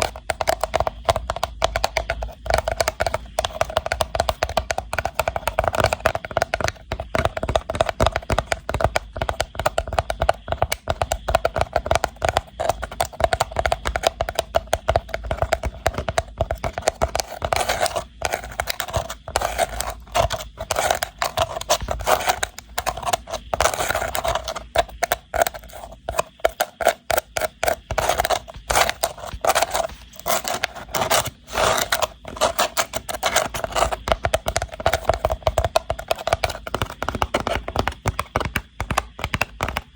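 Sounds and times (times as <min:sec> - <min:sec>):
scratching and tapping on rattan box: 0:00.0 - 0:39.9.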